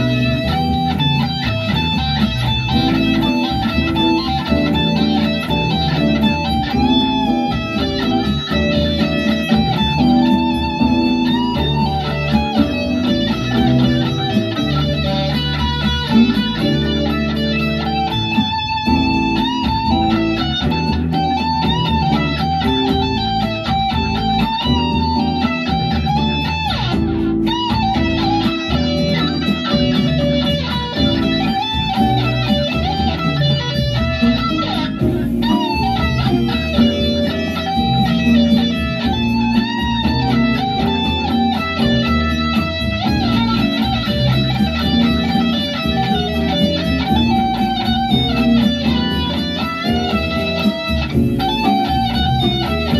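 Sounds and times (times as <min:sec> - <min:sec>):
electric guitar melody with vibrato: 0:00.0 - 0:52.9.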